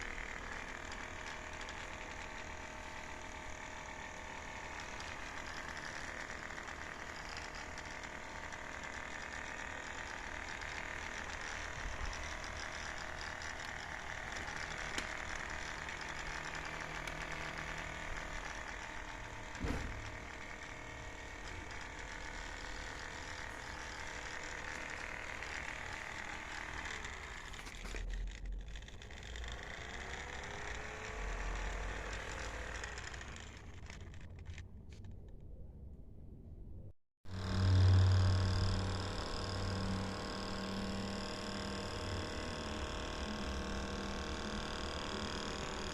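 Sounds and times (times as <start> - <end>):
small electric motor whirring: 0.0 - 35.0, 37.3 - 45.9.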